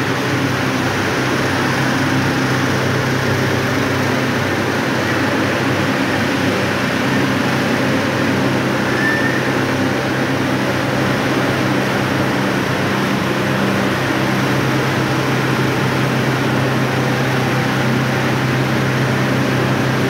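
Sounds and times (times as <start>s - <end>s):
loud mechanical hum: 0.0s - 20.0s.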